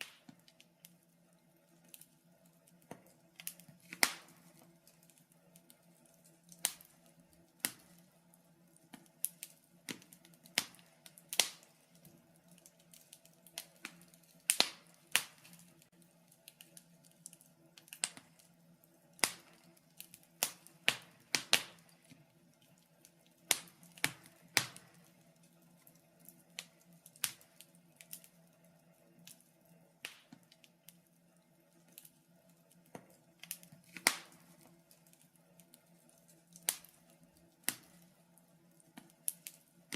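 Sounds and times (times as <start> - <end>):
faint steady low hum: 0.0 - 39.9
wood fire crackling and popping: 0.0 - 39.9.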